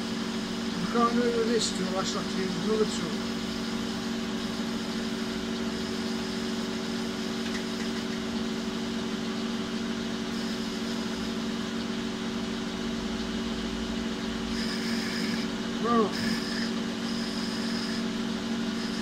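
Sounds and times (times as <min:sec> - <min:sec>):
metal lathe humming: 0:00.0 - 0:19.0.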